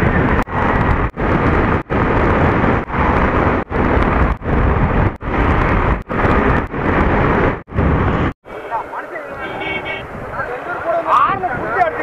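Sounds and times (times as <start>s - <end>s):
loud wind rush: 0.0s - 12.0s.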